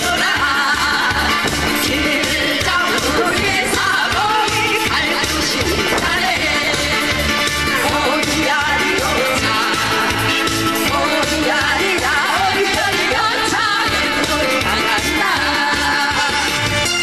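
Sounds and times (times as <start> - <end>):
women singing into microphones: 0.0 - 16.8
backing track with steady beat: 0.0 - 17.0.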